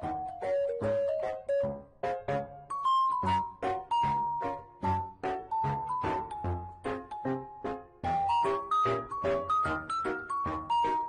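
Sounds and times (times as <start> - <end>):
light background music: 0.0 - 11.0.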